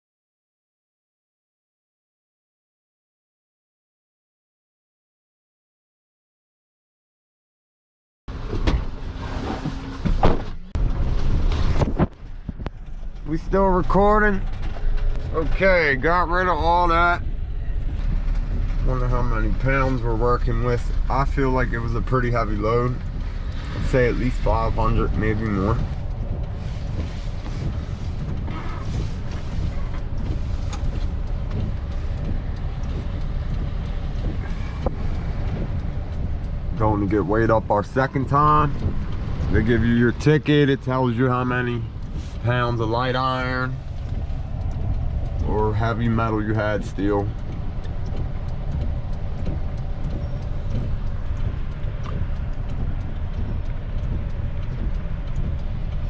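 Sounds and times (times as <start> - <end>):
light rattles and knocks: 8.3 - 56.0
truck engine and road rumble: 8.3 - 56.0.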